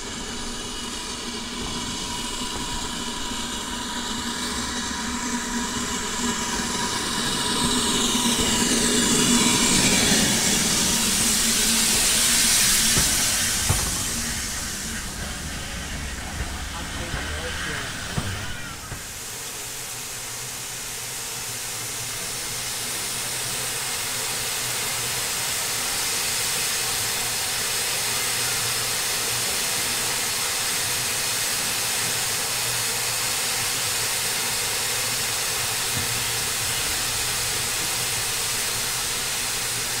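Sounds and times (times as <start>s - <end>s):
steam locomotive safety valve hissing: 0.0s - 40.0s.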